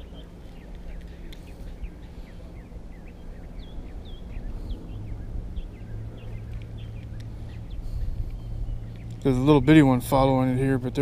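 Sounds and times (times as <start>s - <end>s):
low outdoor rumble: 0.0s - 11.0s
small birds chirping: 0.0s - 11.0s
steady low hum: 0.0s - 11.0s.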